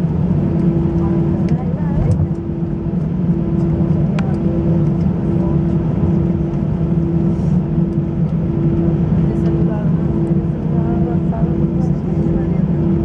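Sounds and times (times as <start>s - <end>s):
aircraft cabin engine rumble: 0.0s - 13.0s
steady hum: 0.0s - 13.0s.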